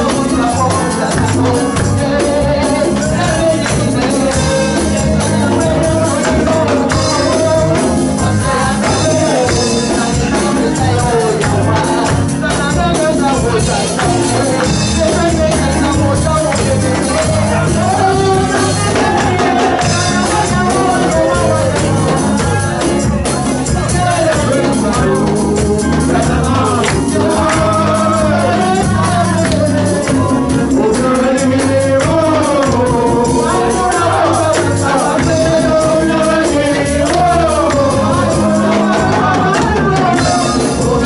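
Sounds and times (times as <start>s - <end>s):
backing singer: 0.0s - 41.0s
drums: 0.0s - 41.0s
keyboard: 0.0s - 41.0s.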